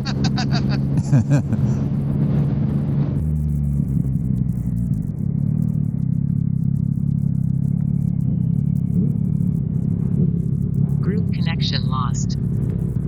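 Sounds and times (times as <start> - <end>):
muffled motorcycle engine running: 0.0 - 13.0
road and wind noise: 0.0 - 13.0.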